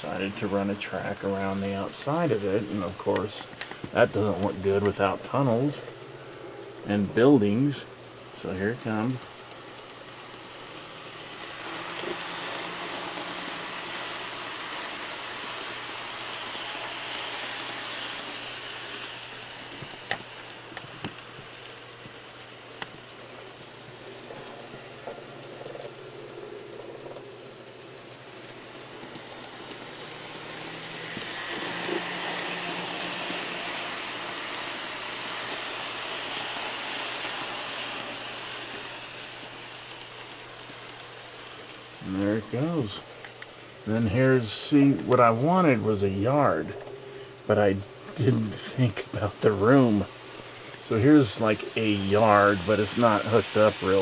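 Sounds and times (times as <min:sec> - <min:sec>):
model train running on track: 0:00.0 - 0:54.0.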